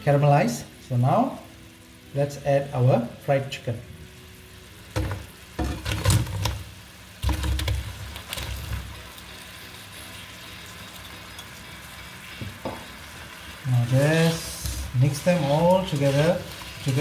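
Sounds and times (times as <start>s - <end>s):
sauce sizzling: 0.0s - 17.0s.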